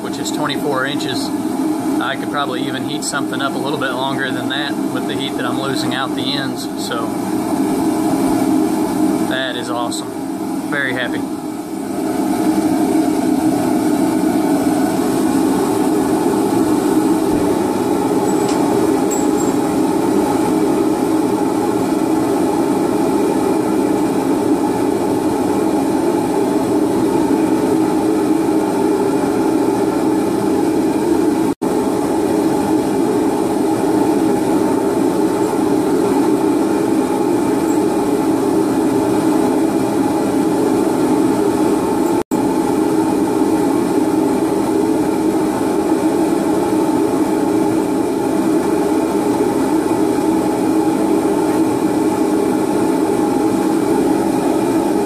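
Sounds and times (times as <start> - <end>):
forge burners roaring: 0.0 - 55.0.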